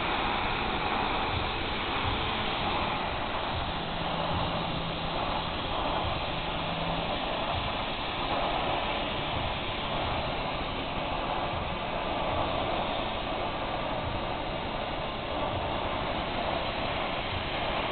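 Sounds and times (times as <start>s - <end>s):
welding arc hissing: 0.0s - 17.9s.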